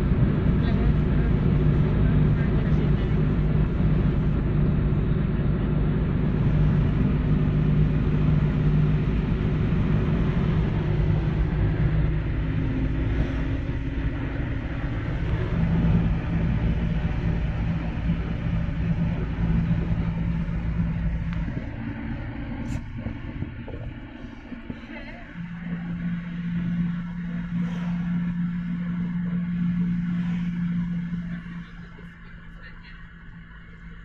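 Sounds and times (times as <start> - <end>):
car engine drone: 0.0 - 34.0
road noise rumble: 0.0 - 34.0.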